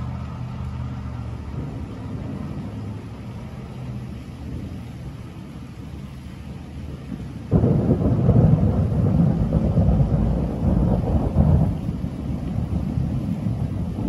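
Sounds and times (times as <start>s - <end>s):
thunder clap and rumble: 1.4s - 5.6s, 6.9s - 14.0s.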